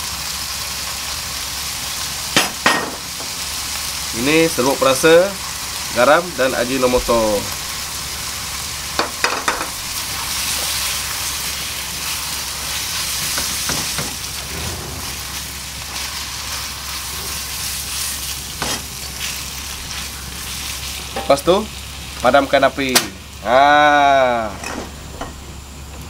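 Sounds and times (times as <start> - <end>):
noodles sizzling in a wok: 0.0 - 26.0.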